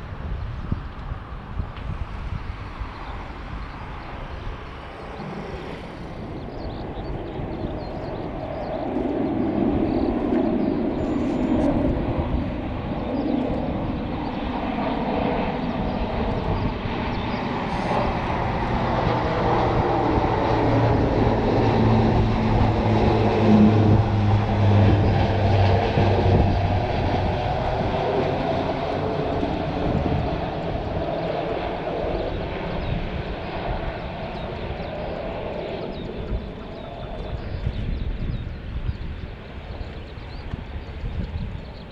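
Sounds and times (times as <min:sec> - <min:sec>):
aircraft engine passing by: 0:00.0 - 0:41.9.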